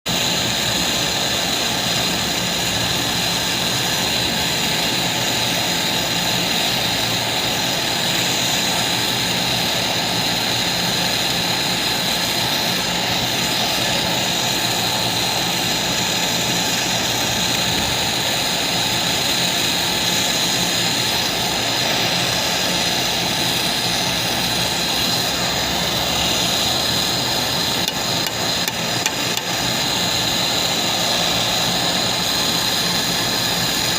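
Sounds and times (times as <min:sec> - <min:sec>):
loud mechanical noise with hiss: 0:00.0 - 0:33.9.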